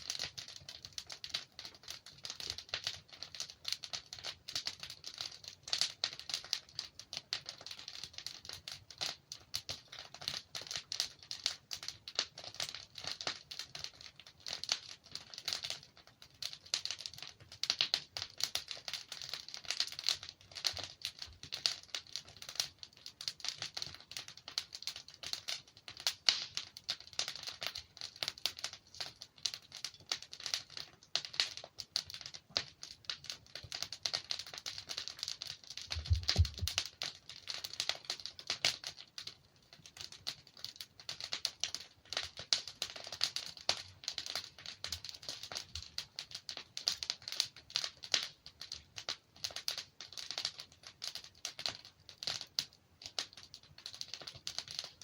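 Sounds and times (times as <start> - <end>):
logs crackling in a fireplace: 0.0 - 55.0.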